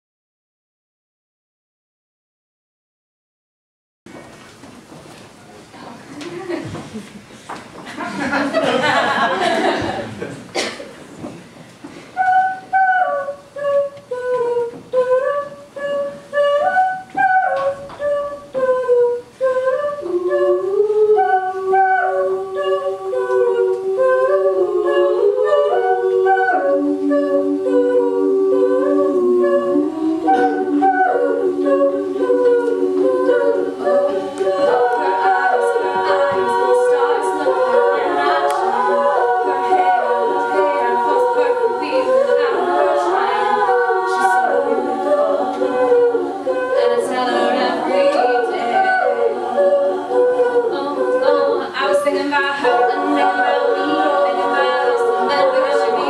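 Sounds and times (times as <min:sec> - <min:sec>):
women singing a cappella: 0:07.9 - 0:10.7, 0:12.1 - 0:56.0.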